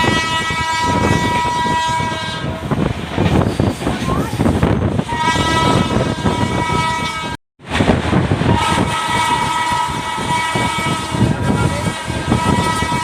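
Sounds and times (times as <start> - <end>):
train horn: 0.0 - 3.4, 5.0 - 7.4, 8.3 - 13.0
train rumbling: 0.0 - 13.0.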